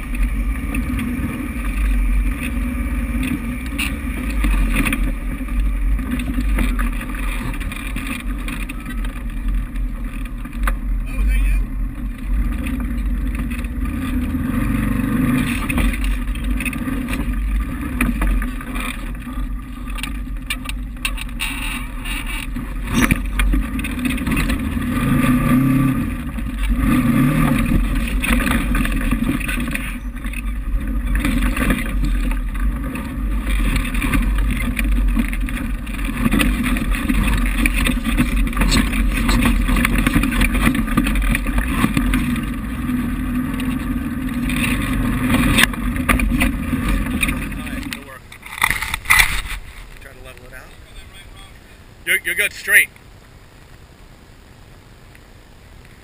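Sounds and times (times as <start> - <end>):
knocks and rattles over rocks: 0.0 - 52.2
off-road vehicle engine droning: 0.0 - 56.0.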